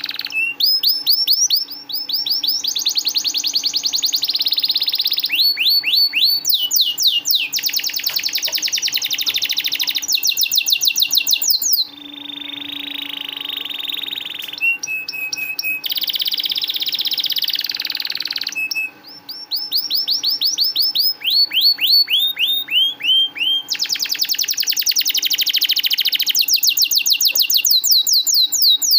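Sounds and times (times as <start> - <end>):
canary singing trills: 0.0 - 28.9.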